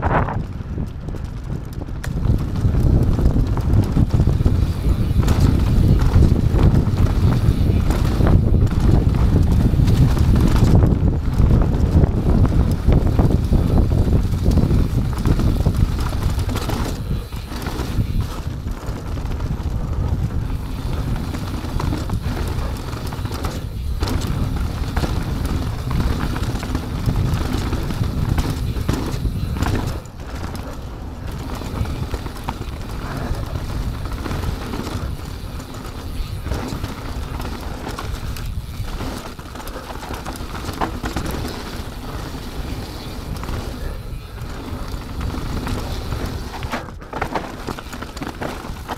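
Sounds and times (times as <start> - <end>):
bike rattling and knocking: 0.0 - 48.9
tyres rolling over dirt: 0.0 - 48.9
wind buffeting microphone: 0.0 - 48.9.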